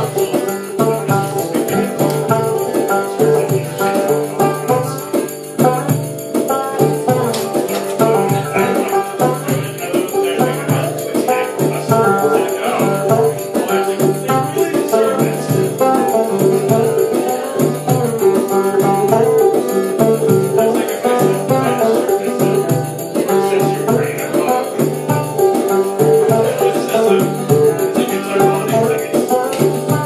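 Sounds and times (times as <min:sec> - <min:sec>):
banjo playing: 0:00.0 - 0:30.0
repeating drum loop: 0:00.0 - 0:30.0.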